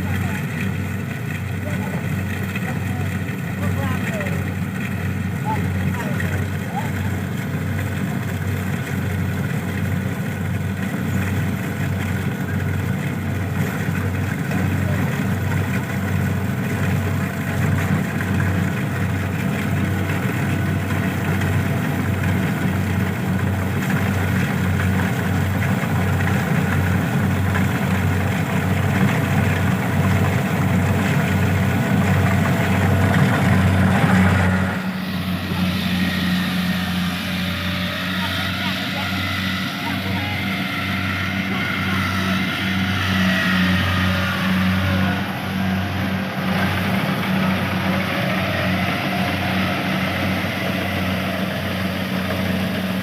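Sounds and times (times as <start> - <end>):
engine running with low throb: 0.0 - 53.0.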